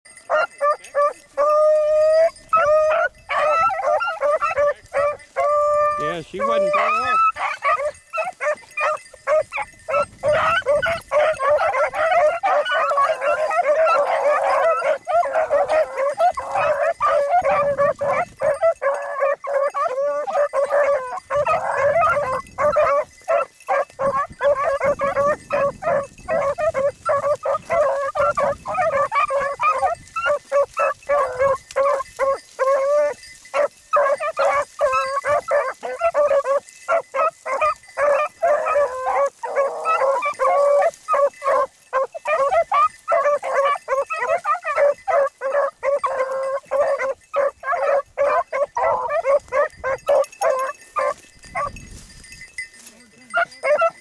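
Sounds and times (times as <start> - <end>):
hounds baying: 0.1 - 54.0.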